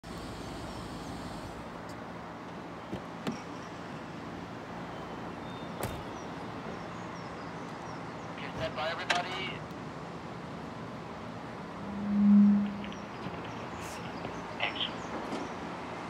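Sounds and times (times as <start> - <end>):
hum of cars and traffic: 0.0 - 16.0.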